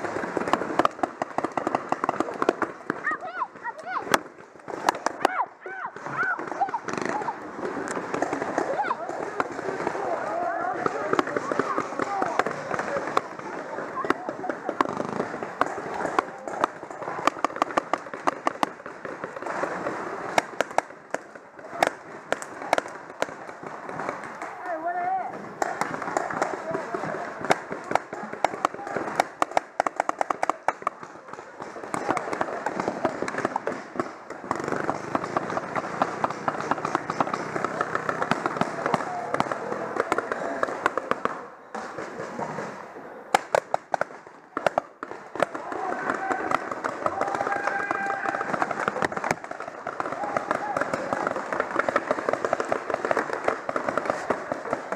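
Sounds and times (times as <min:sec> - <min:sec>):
paintball markers firing: 0:00.0 - 0:54.9.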